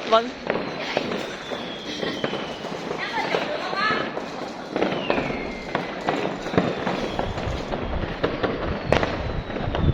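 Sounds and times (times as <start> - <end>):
fireworks bangs: 0.2 - 9.9
firework whistle gliding down: 0.5 - 3.4, 4.7 - 9.9.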